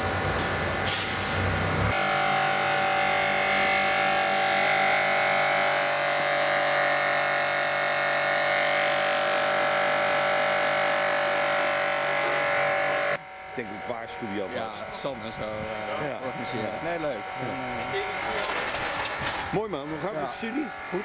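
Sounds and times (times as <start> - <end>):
pressure washer motor humming: 0.0 - 21.0.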